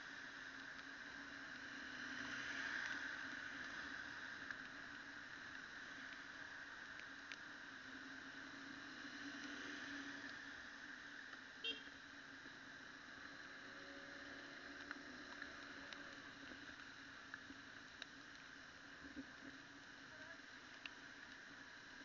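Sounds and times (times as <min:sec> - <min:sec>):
faint steady hum: 0:00.0 - 0:22.0
raindrops ticking on camera: 0:00.1 - 0:22.0.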